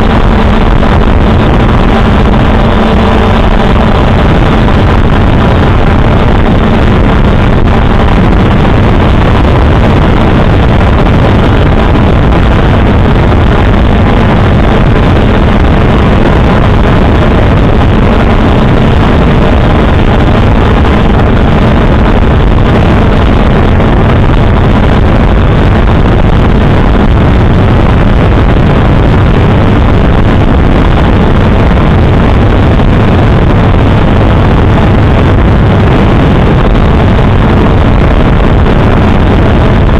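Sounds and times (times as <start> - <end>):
drone propellers buzzing: 0.0 - 39.9
wind noise on microphone: 0.0 - 39.9.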